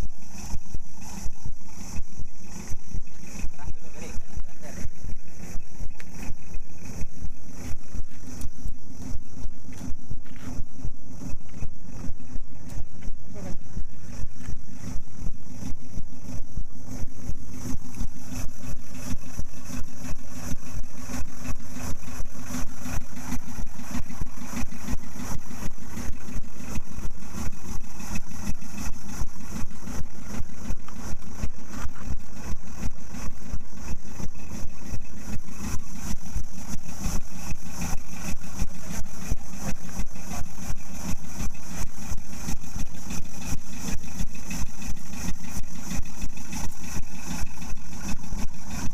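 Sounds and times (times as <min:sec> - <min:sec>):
boat engine idling: 0:00.0 - 0:48.9.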